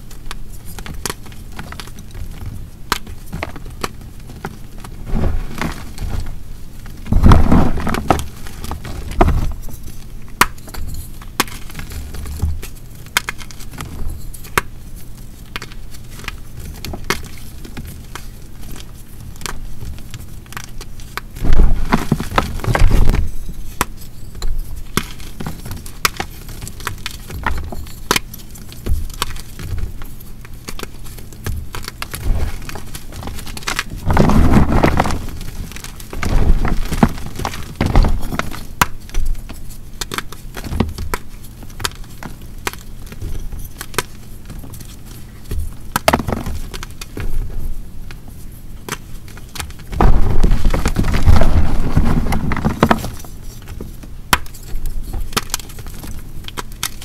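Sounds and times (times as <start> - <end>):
chalk cracking and crumbling: 0.0 - 57.0.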